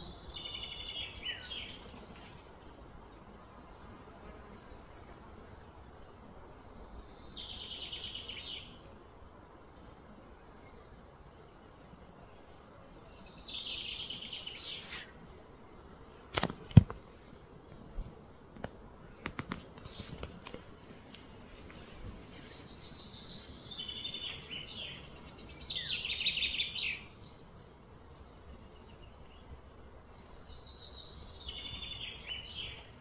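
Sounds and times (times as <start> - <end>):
songbird chirping: 0.0 - 18.4, 19.0 - 33.0.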